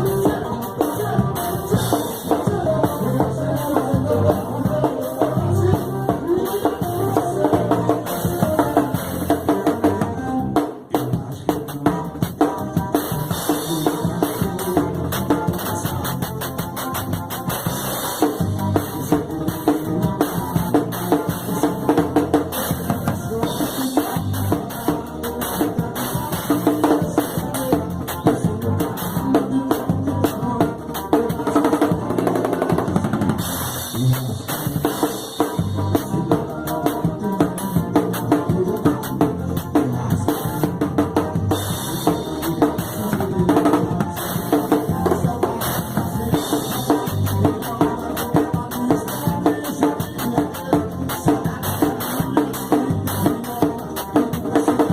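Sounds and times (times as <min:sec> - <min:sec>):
bass drum and snare beat: 0:00.0 - 0:54.9
live band music: 0:00.0 - 0:54.9.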